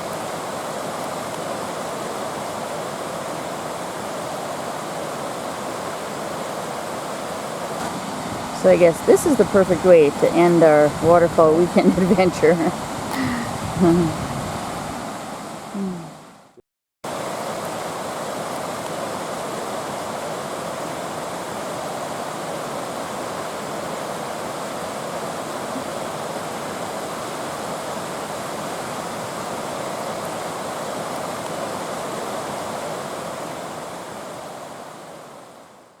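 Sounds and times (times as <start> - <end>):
waterfall rushing: 0.0 - 16.3, 17.1 - 35.3.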